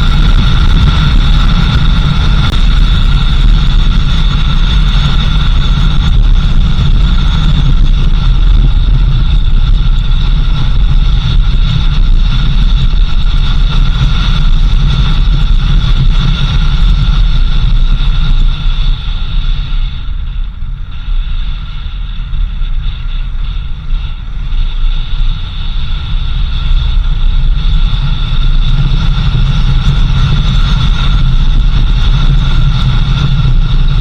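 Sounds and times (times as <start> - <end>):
engine and road rumble: 0.0 - 34.0
high whines: 0.0 - 34.0.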